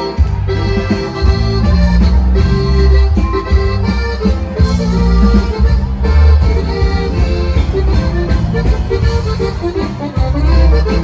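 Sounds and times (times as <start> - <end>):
accordion melody: 0.0 - 11.0
band playing: 0.0 - 11.0.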